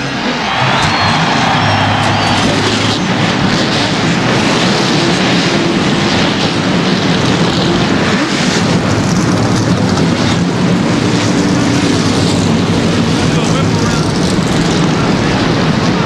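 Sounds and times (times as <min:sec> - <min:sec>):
stock car engines rumbling: 0:00.0 - 0:16.0.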